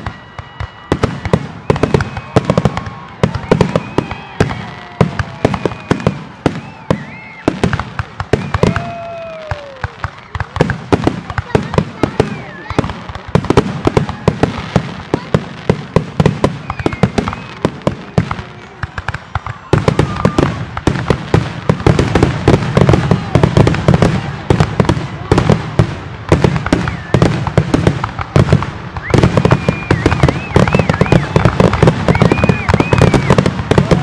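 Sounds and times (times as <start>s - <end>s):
fireworks bursting: 0.0s - 34.0s
fireworks crackling: 0.0s - 34.0s.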